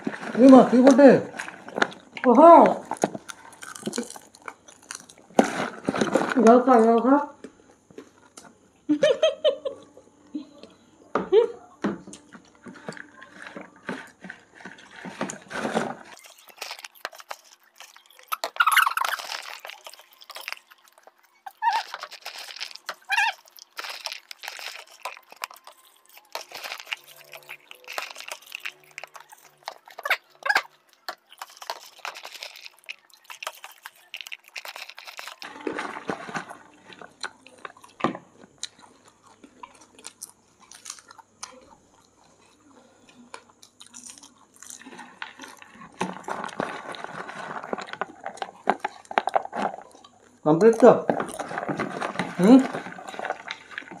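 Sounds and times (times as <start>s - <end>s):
people chewing popcorn crunchily: 0.0s - 10.8s, 11.6s - 54.0s.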